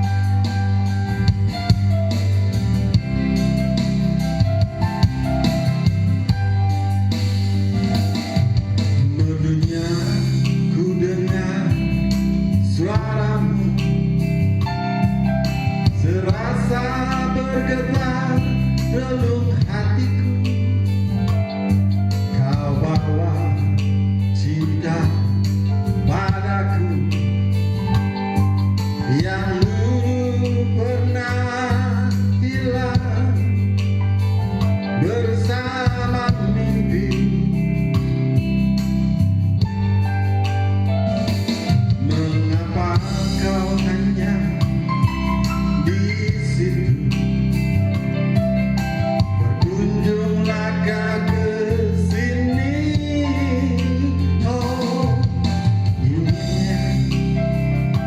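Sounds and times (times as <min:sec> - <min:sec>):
bass line: 0:00.0 - 0:58.0
guitar: 0:00.0 - 0:58.0
person singing pop ballad: 0:00.0 - 0:58.0.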